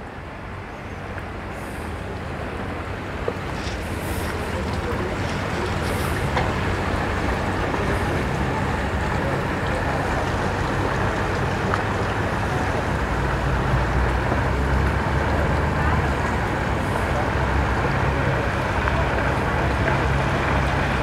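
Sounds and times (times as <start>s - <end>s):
boat engine rumbling: 0.0s - 21.0s
wind: 0.0s - 21.0s
water noise: 1.2s - 21.0s.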